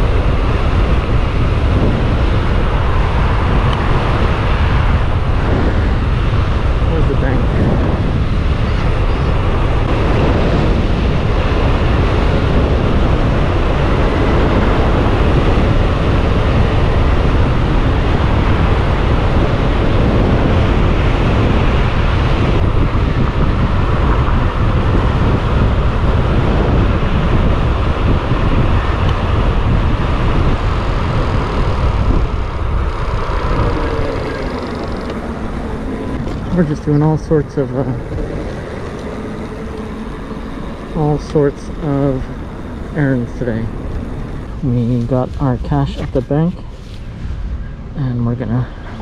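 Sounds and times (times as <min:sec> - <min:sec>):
road and tyre noise: 0:00.0 - 0:49.0
wind rushing over microphone: 0:00.0 - 0:49.0.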